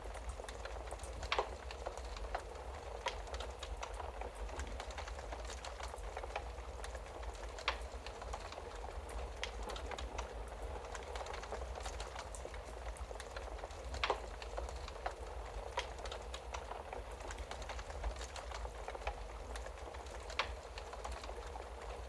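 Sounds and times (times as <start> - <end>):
burning logs popping: 0.0 - 22.0
wood fire crackling: 0.0 - 22.0.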